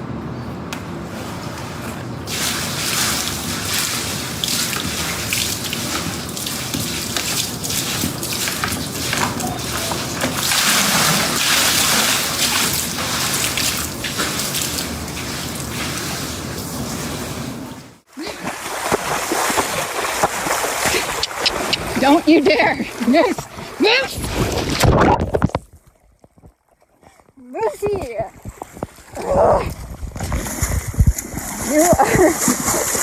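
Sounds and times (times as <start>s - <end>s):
water splashing and running: 1.1s - 33.0s.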